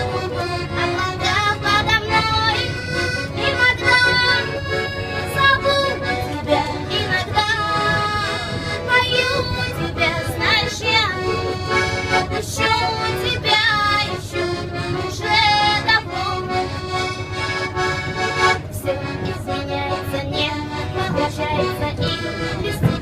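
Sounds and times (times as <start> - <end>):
held instrumental chords: 0.0 - 23.0
train rumbling: 0.0 - 23.0
woman singing: 1.0 - 4.6, 5.2 - 11.6, 12.2 - 16.6, 18.5 - 23.0.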